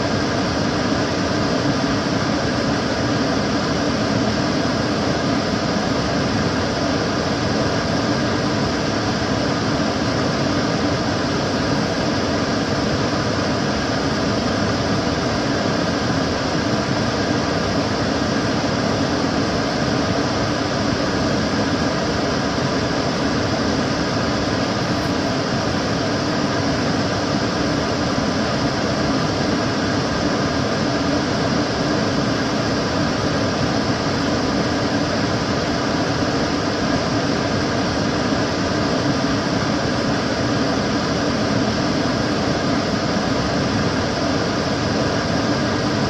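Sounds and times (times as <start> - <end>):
extractor fan running: 0.0 - 46.0.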